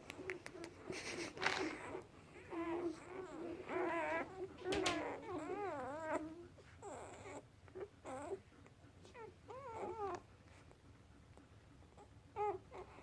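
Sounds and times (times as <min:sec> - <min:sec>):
newborn puppies whimpering: 0:00.0 - 0:13.0.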